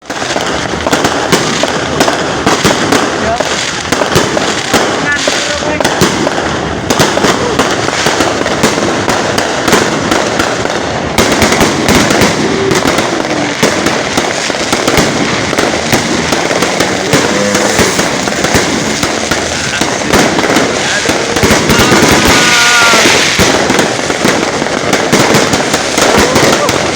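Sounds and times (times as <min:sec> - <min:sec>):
fireworks spraying with crackling: 0:00.0 - 0:26.9.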